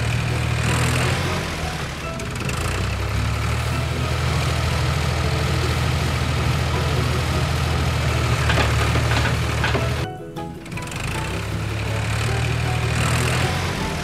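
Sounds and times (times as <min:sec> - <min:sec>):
heavy engine idling: 0:00.0 - 0:14.0.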